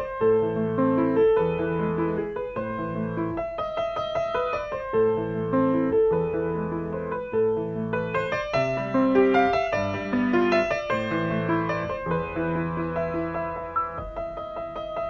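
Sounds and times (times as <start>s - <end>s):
digital piano melody with chords: 0.0s - 15.0s.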